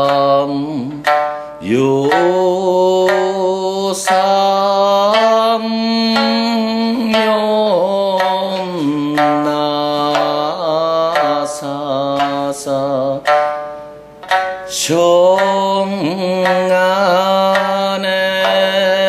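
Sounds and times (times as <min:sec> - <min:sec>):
person singing long bending notes: 0:00.0 - 0:19.0
plucked lute strokes: 0:00.0 - 0:19.0.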